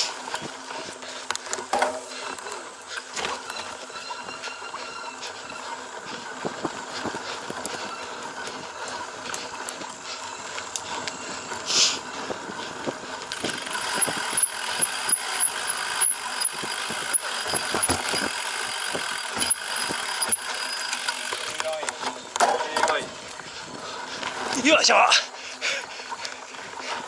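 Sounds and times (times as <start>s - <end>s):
bike chain and frame rattling: 0.0s - 27.0s.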